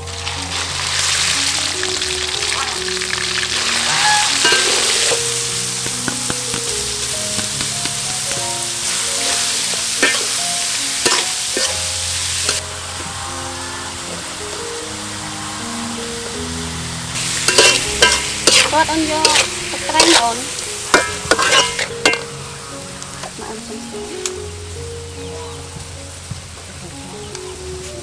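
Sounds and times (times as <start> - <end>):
food sizzling in a wok: 0.0 - 28.0
soft background music: 0.0 - 28.0.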